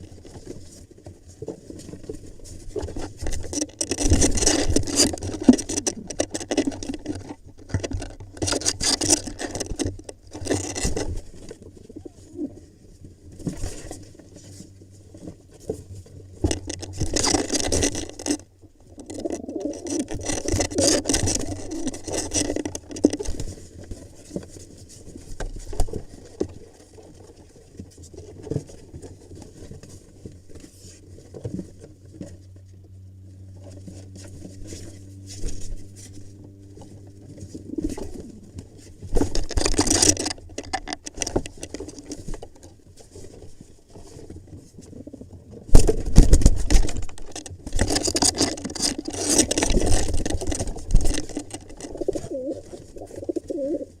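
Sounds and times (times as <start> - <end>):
knocks and scrapes: 0.1 - 32.7, 33.6 - 54.0.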